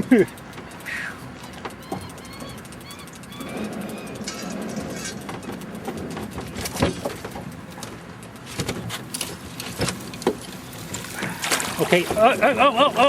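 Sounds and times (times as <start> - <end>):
gear knocking and clattering: 0.0 - 13.0
steady background noise: 0.0 - 13.0.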